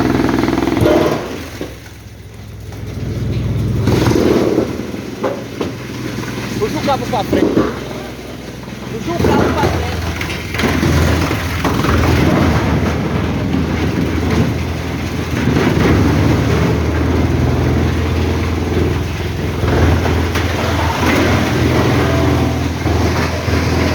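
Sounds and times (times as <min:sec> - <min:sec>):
diesel engine hum: 0:00.0 - 0:23.9
machinery rumbling and clattering: 0:00.0 - 0:23.9.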